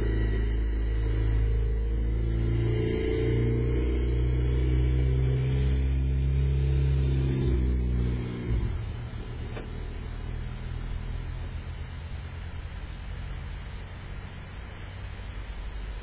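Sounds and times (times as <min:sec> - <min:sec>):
car engine rumble driving away: 0:00.0 - 0:16.0.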